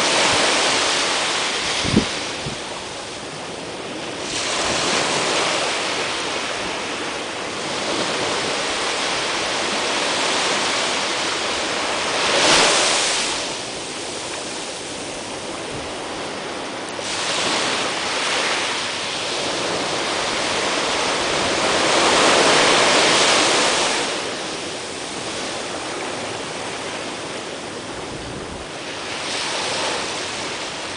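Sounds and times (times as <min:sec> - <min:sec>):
small waves breaking on shore: 0:00.0 - 0:30.9.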